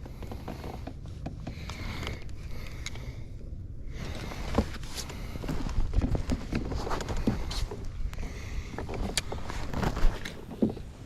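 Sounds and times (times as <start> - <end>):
clicks and knocks on kayak: 0.0 - 3.0, 4.4 - 11.0
steady low rumble: 0.0 - 11.0.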